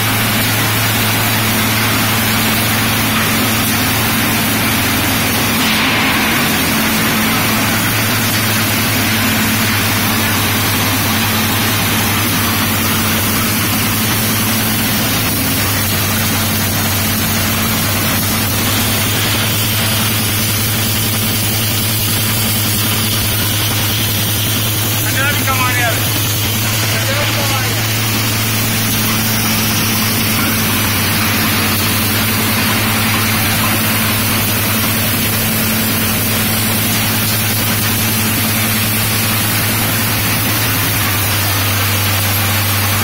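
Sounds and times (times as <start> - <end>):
cutting mechanism noise: 0.0 - 43.0
low motor hum: 0.0 - 43.0.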